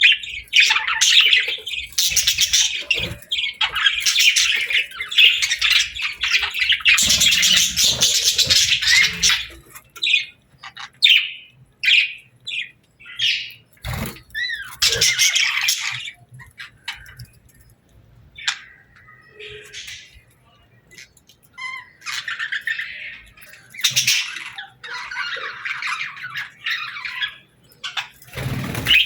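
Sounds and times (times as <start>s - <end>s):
budgerigars chirping and chattering: 0.0s - 29.0s.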